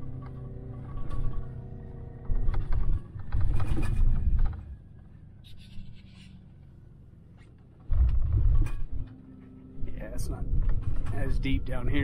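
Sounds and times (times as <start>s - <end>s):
truck engine hum: 0.0s - 12.0s.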